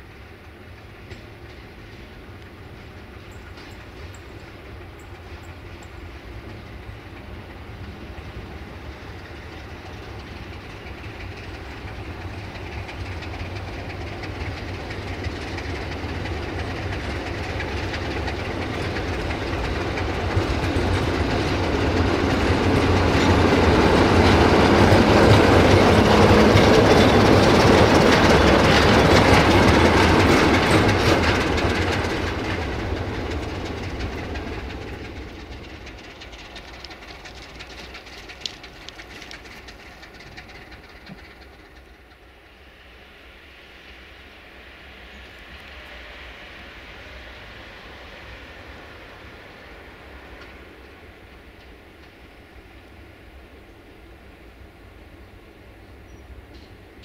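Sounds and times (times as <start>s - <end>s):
coaches rolling on rails: 0.0s - 57.0s
locomotive engine hum: 0.0s - 57.0s.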